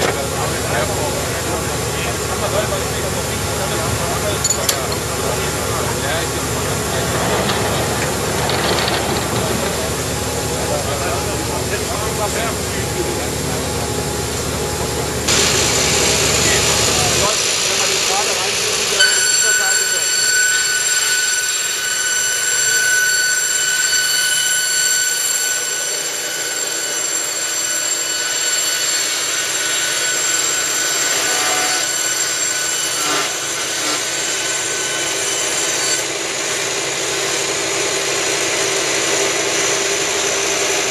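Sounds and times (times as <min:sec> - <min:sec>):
saw blade high whine: 0:00.0 - 0:40.9
sawmill machinery humming: 0:00.0 - 0:40.9.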